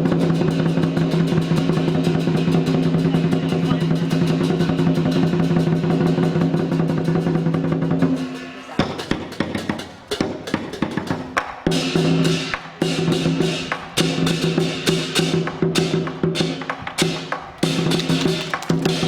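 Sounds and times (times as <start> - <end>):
drum and cymbal band: 0.0 - 19.0.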